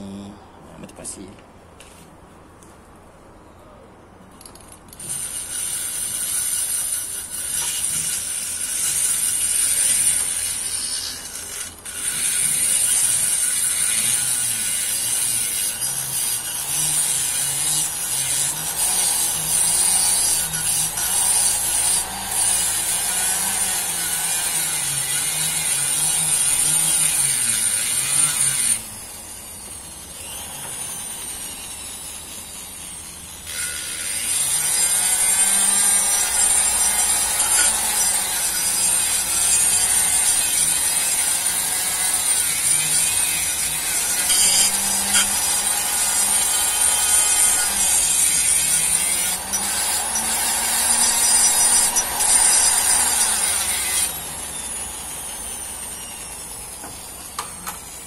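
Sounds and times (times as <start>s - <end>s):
rotary grinder grinding metal: 4.9s - 58.0s.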